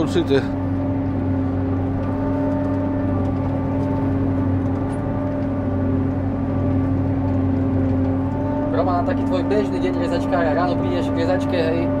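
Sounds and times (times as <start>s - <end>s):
forage harvester droning: 0.0s - 12.0s.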